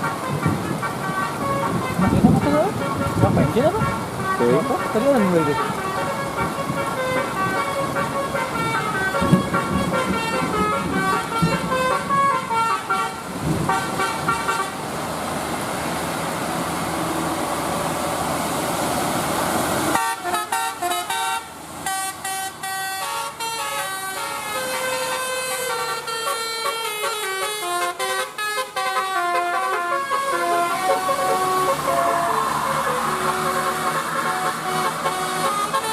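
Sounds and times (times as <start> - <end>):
bus air horns playing melody: 0.0 - 14.9, 19.8 - 35.9
heavy rain hiss: 0.0 - 35.9.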